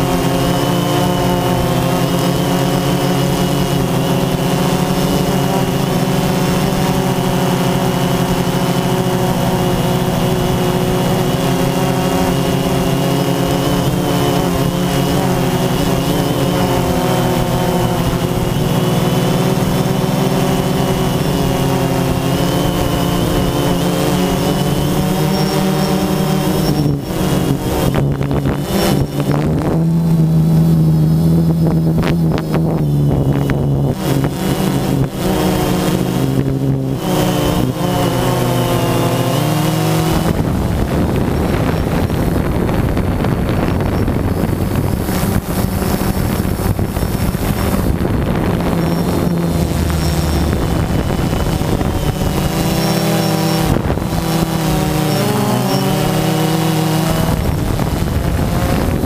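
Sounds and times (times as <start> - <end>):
drone motors whining: 0.0 - 59.0
wind hiss: 0.0 - 59.0.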